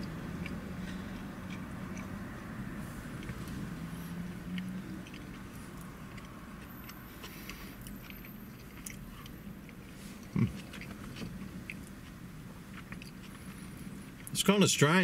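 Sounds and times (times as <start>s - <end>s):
man chewing food: 0.0s - 14.4s.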